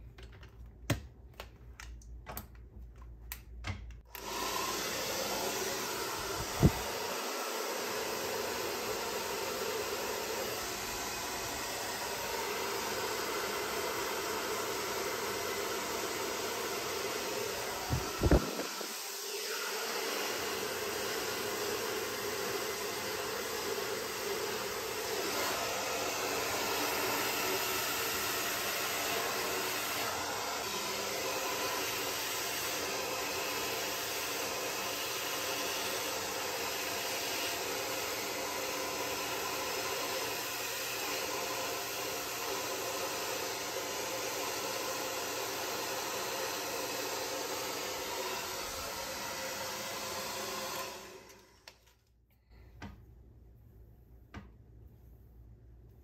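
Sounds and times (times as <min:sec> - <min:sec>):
hair dryer running: 0:04.0 - 0:51.9.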